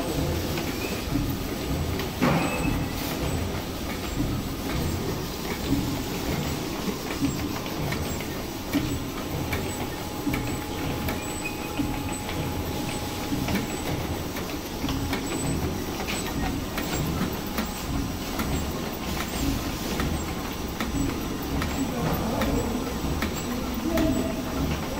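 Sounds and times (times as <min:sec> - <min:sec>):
machine clattering and clicking: 0:00.0 - 0:24.9.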